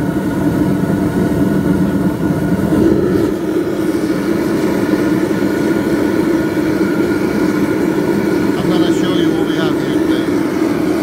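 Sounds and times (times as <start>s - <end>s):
furnace rushing with low hum: 0.0s - 11.0s.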